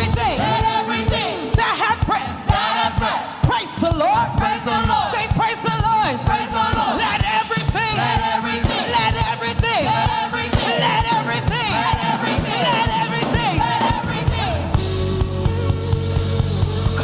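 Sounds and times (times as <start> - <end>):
voices singing and shouting: 0.0 - 14.9
steady drum beat: 0.0 - 17.0
upbeat praise band music: 0.0 - 17.0.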